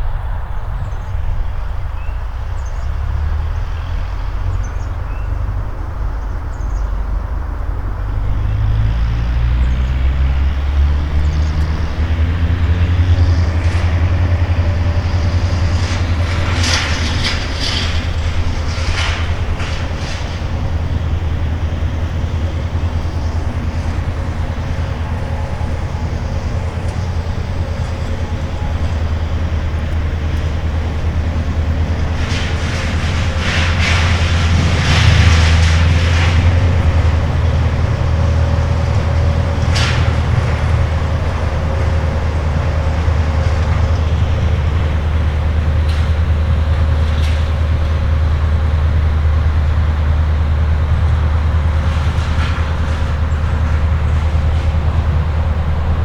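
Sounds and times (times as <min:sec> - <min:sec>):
large vehicle engine rumble: 0:00.0 - 0:56.0
rattling and clanking: 0:06.8 - 0:56.0.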